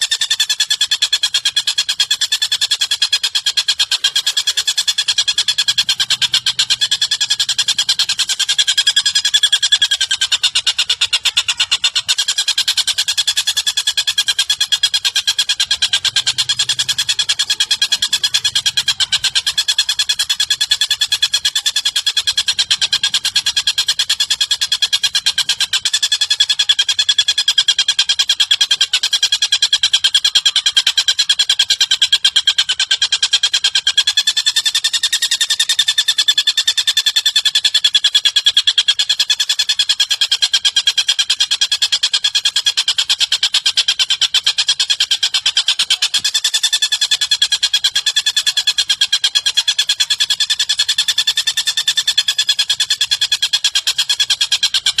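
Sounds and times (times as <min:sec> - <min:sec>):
buzzy bird trill: 0:00.0 - 0:55.0.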